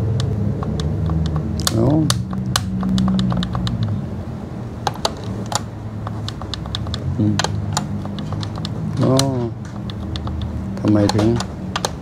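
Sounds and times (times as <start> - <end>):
steady low hum: 0.0 - 12.0
plastic desk equipment clicking: 0.2 - 4.0, 4.8 - 12.0.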